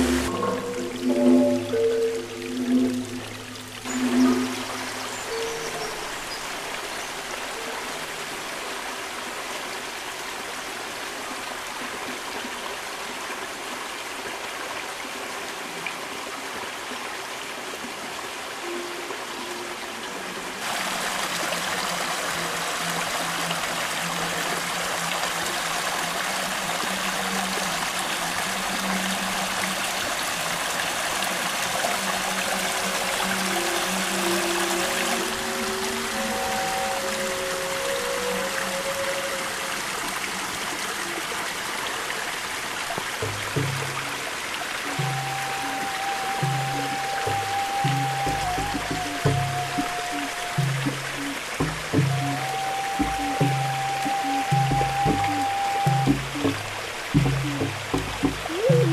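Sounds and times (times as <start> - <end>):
stream trickling over stones: 0.0 - 58.9.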